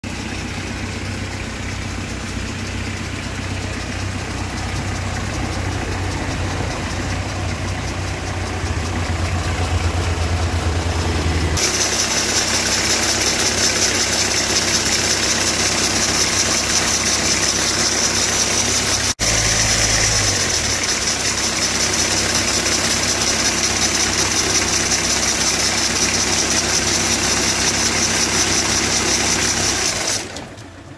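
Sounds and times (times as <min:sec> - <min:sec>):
diesel engine idling: 0:00.0 - 0:30.9
belt tensioner bearing noise: 0:01.3 - 0:30.2.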